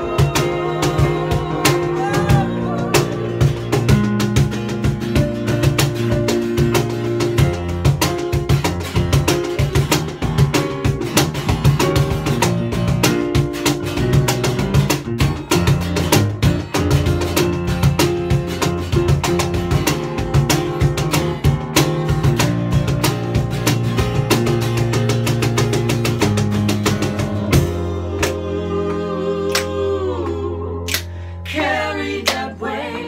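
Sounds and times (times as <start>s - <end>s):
band playing instrumental: 0.0s - 28.4s
electric guitar: 0.0s - 31.4s.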